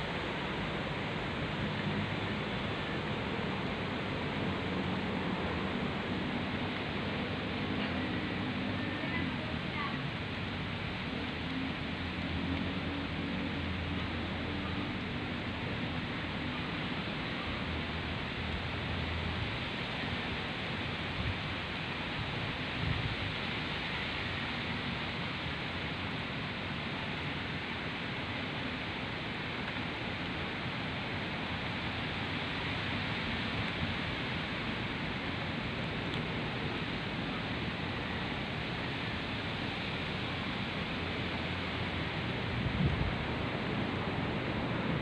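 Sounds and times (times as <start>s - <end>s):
wind rumbling on microphone: 0.0s - 45.0s
wind through trees and foliage: 0.0s - 45.0s.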